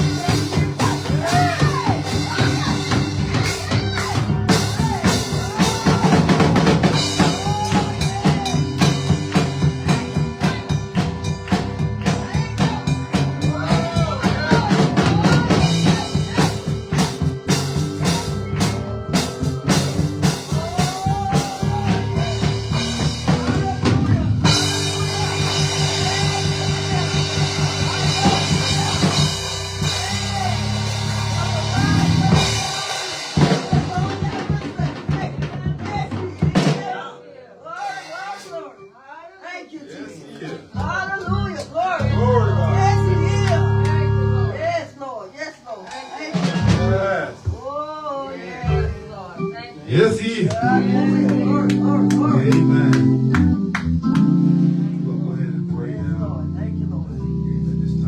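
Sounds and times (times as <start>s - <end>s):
held keyboard chords: 0.0s - 36.9s, 40.7s - 44.8s, 48.5s - 58.0s
drums beating: 0.0s - 37.2s, 40.7s - 44.7s, 46.0s - 56.4s
band playing praise music: 0.0s - 39.4s, 40.0s - 58.0s.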